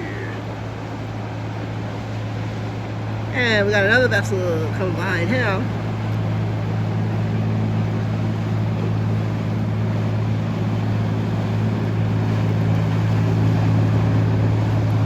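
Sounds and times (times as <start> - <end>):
motorboat engine droning: 0.0 - 15.0.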